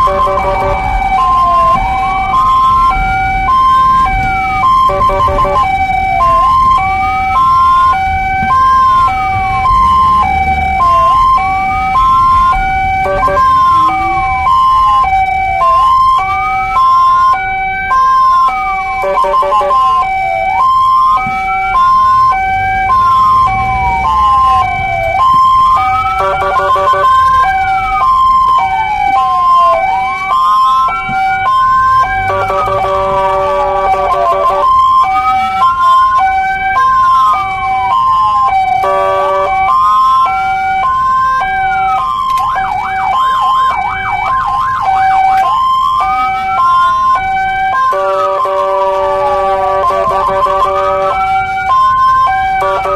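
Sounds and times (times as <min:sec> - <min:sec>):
ambulance siren wailing: 0:00.0 - 0:52.9
rapid pulsing siren tone: 0:00.0 - 0:52.9
road rumble: 0:00.0 - 0:52.9
two-tone hi-lo siren: 0:00.0 - 0:52.9.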